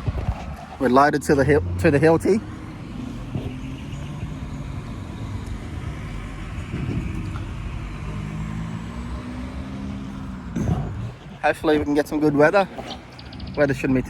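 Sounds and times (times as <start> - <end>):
car engine drone: 0.0 - 14.0
road rumble: 0.0 - 14.0.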